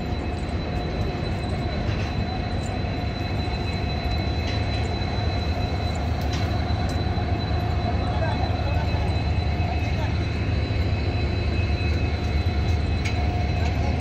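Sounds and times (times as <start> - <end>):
faint thin whine: 0.0 - 14.0
train rumbling: 0.0 - 14.0.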